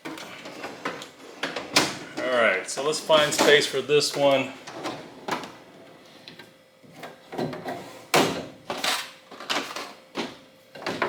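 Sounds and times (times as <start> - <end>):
objects clunking and scraping: 0.0 - 11.0.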